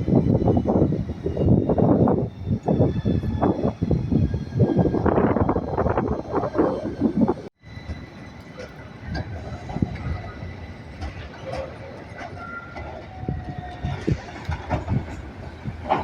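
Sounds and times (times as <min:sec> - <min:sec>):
high wheel squeals: 0:00.0 - 0:15.7
tram running on rails: 0:00.0 - 0:16.0.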